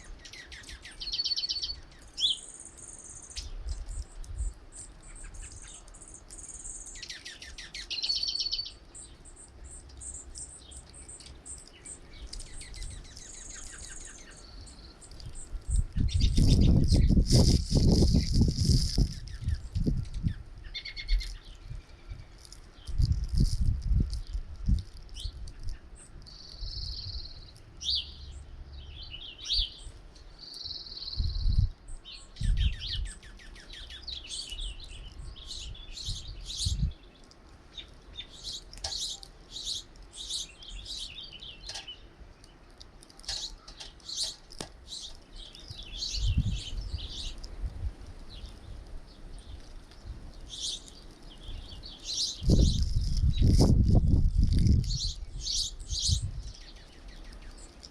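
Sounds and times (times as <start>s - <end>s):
buzzy bird calls: 0.0s - 42.1s, 43.2s - 57.8s
songbirds chirping: 0.0s - 57.9s.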